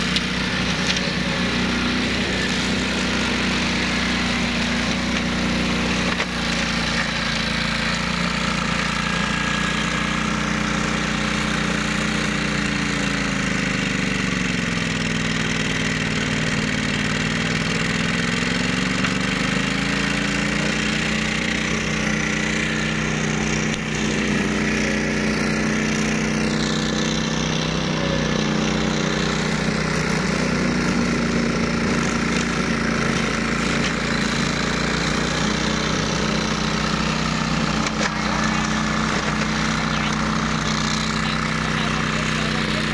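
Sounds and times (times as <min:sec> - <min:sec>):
mower engine running: 0:00.0 - 0:42.9.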